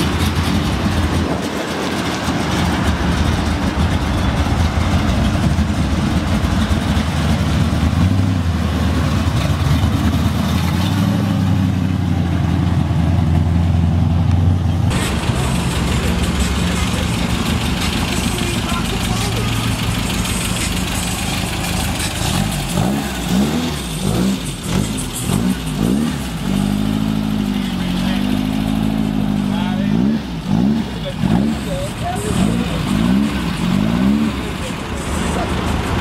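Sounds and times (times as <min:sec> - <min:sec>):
car engine low exhaust rumble: 0:00.0 - 0:36.0.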